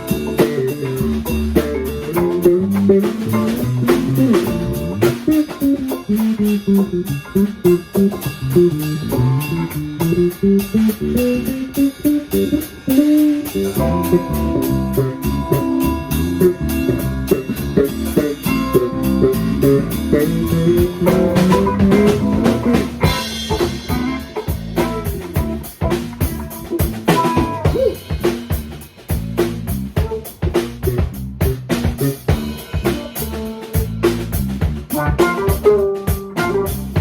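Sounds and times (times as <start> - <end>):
cymbals: 0.0 - 37.0
funk band music: 0.0 - 37.0.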